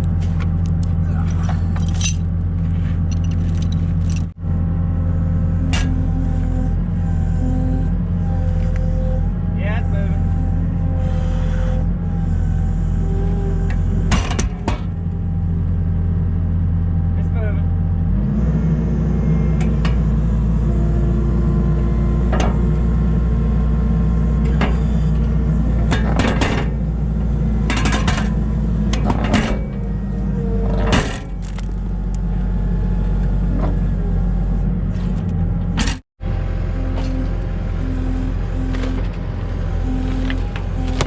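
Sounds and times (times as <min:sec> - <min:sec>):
skid steer engine running: 0:00.0 - 0:41.0.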